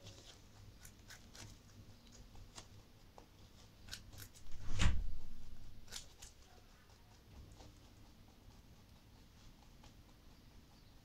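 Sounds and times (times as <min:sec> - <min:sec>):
rabbit crunching carrot: 0:00.0 - 0:11.0.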